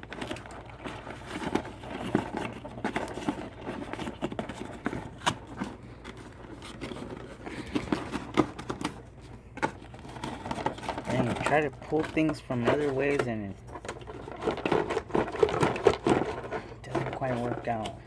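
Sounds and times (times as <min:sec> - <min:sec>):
packaging rustling: 0:00.0 - 0:18.0
packaging scraping: 0:00.0 - 0:18.0.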